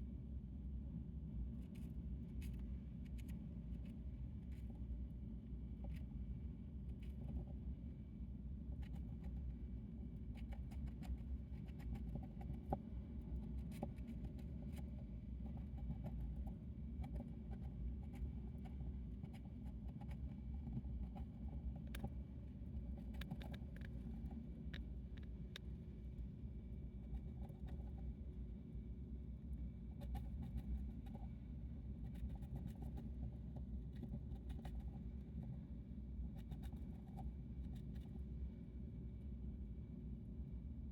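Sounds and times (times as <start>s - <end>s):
steady low hum: 0.0s - 40.9s
hamster nibbling and chewing: 1.3s - 39.0s.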